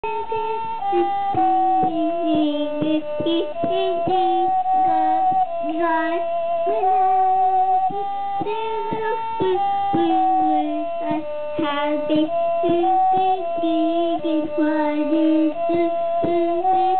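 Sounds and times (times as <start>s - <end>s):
high instrumental melody: 0.0s - 16.8s
child singing: 0.0s - 16.9s.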